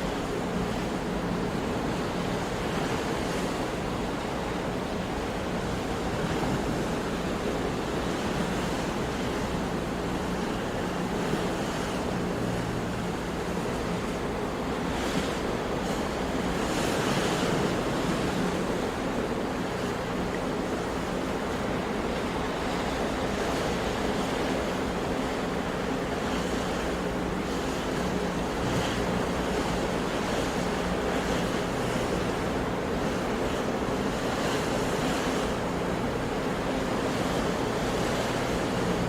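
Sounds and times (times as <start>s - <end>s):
sea waves washing onto shore: 0.0s - 39.0s.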